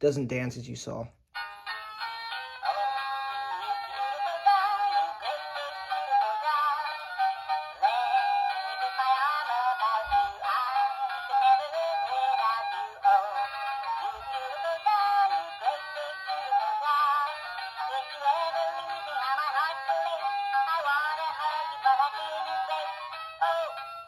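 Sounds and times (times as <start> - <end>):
toy singing through tinny speaker: 1.4 - 24.0.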